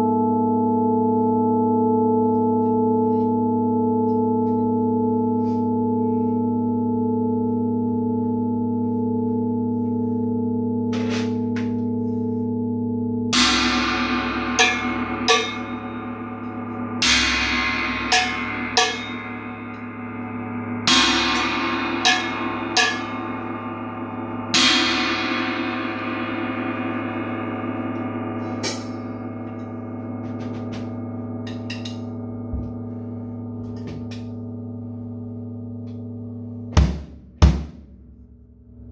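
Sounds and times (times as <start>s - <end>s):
gong ringing hum: 0.0s - 36.7s
gong strokes: 0.0s - 36.7s.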